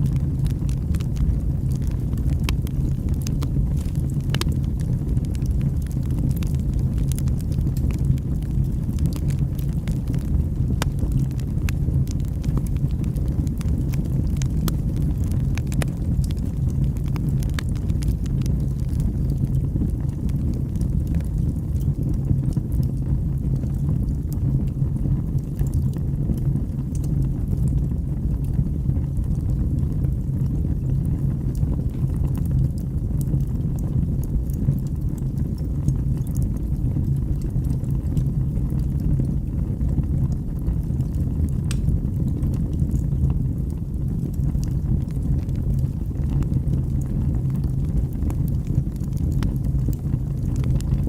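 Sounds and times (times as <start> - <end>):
fire crackles: 0.0 - 51.0
fire flames rumbling: 0.0 - 51.0.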